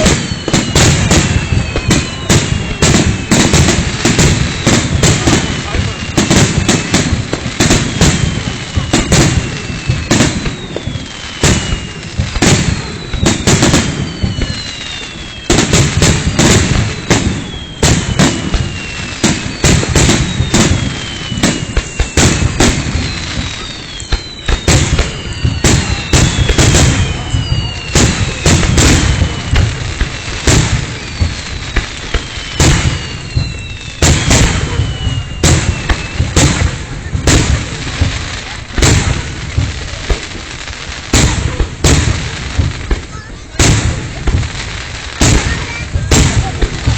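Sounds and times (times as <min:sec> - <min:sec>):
falling firework whistles: 0:00.0 - 0:46.9
fireworks bursting: 0:00.0 - 0:46.9.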